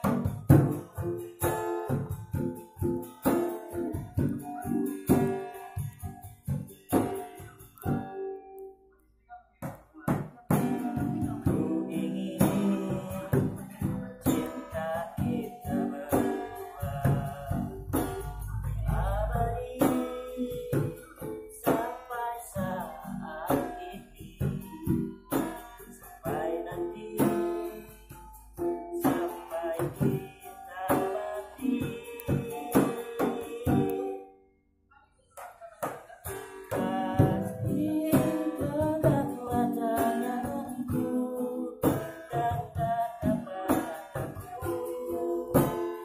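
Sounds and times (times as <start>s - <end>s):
man singing: 0.0s - 2.0s, 9.6s - 34.2s, 35.6s - 46.0s
hand drum beat: 0.0s - 8.2s, 9.6s - 34.2s, 35.8s - 46.0s
acoustic guitar strumming: 0.0s - 8.9s, 9.6s - 34.4s, 35.6s - 46.0s.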